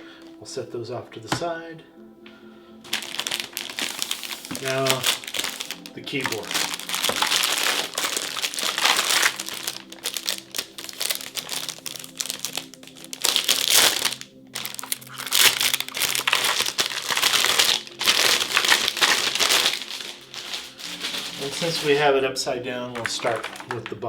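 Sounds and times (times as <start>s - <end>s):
packaging crinkling and rustling: 2.9s - 24.0s.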